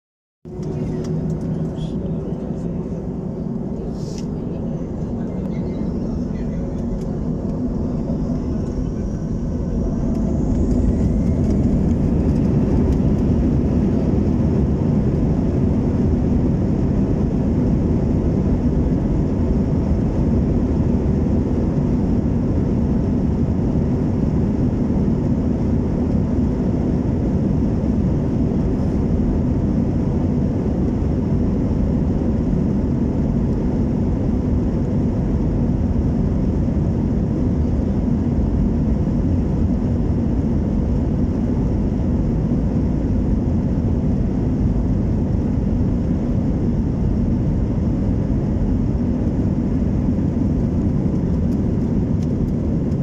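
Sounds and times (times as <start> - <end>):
jet engines low rumble in cabin: 0.4 - 53.0.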